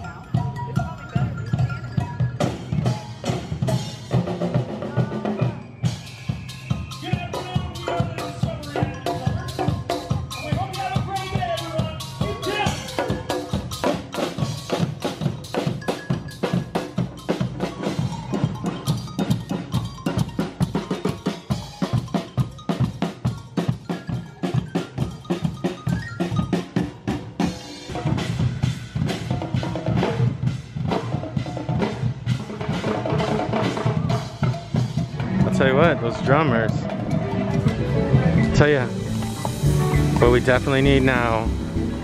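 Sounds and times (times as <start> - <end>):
group of drummers playing: 0.0 - 42.0.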